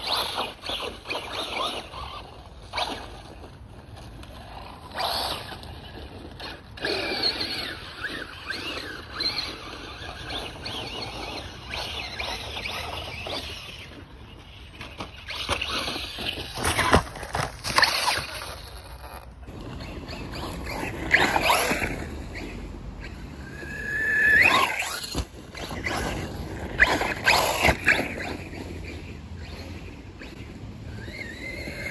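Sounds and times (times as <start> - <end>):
tyres scrabbling over dirt: 0.0 - 28.9.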